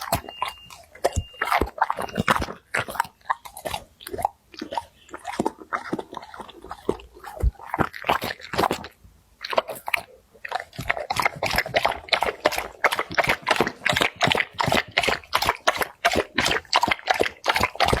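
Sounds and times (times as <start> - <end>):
dog chewing wetly: 0.0 - 18.0.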